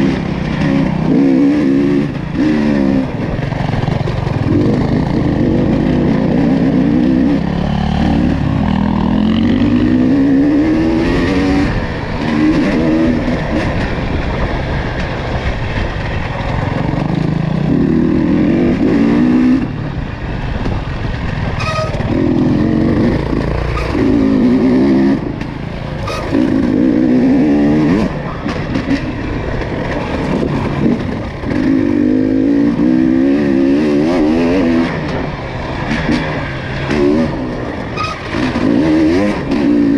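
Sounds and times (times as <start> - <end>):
vehicle engine revving: 0.0 - 14.5, 21.6 - 39.9.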